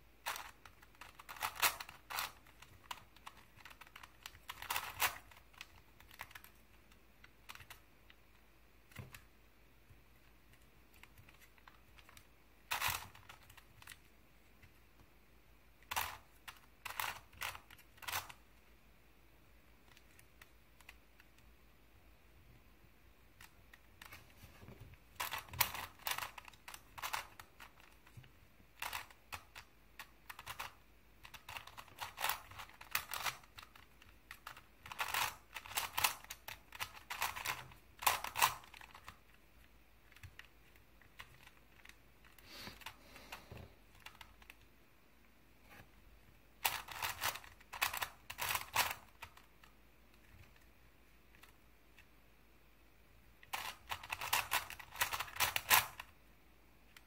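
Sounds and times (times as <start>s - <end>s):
puzzle cube layers clicking: 0.2s - 15.1s, 15.7s - 18.7s, 23.3s - 44.7s, 46.6s - 52.1s, 53.4s - 56.1s.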